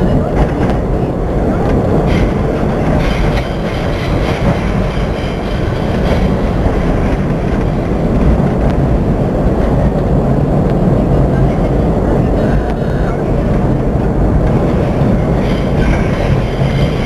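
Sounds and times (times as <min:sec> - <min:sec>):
subway train rumbling on rails: 0:00.0 - 0:17.0.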